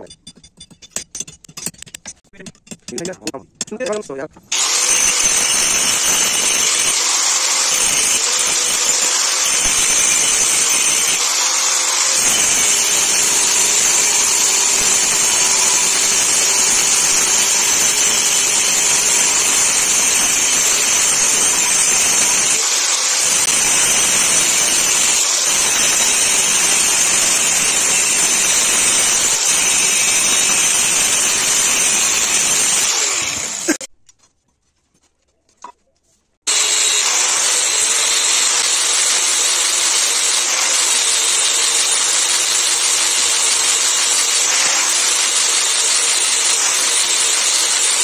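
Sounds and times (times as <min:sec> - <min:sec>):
angle grinder grinding steel: 0:00.9 - 0:33.9, 0:36.5 - 0:48.0.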